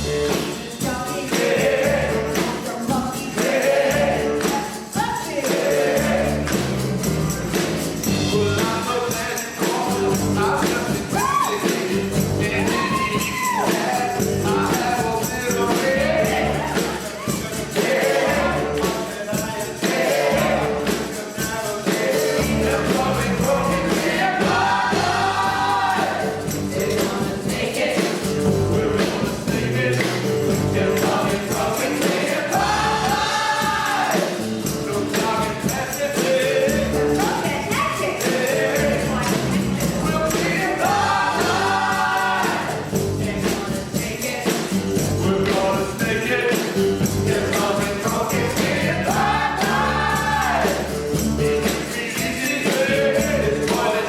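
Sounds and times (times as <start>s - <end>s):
backing track with steady beat: 0.0s - 54.0s
several voices singing: 0.0s - 54.0s.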